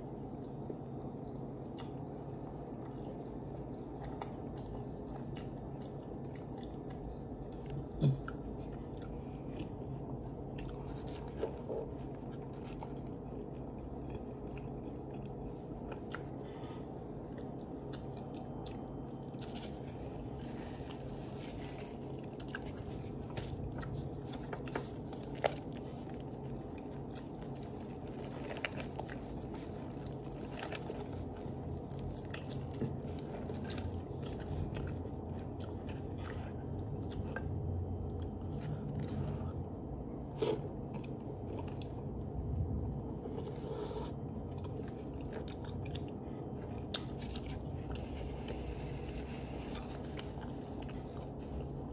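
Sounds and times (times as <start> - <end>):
steady low hum: 0.0 - 51.9
person chewing a sandwich: 0.1 - 51.9.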